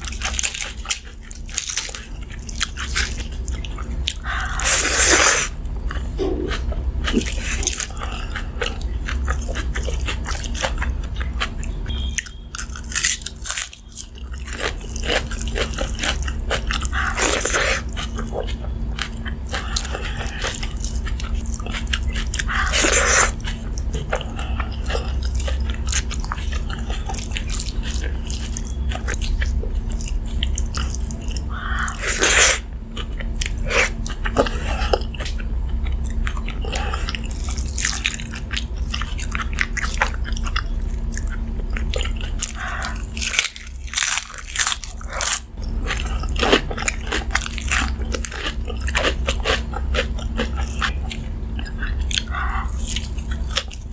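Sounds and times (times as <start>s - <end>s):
low hum: 0.0s - 53.9s
person chewing crunchy food: 0.0s - 53.9s.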